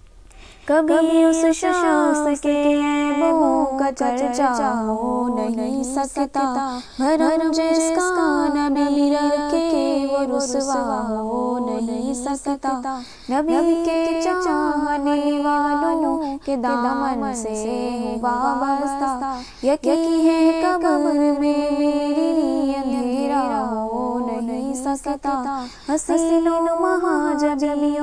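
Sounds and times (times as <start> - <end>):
person singing unaccompanied: 0.7 - 28.0.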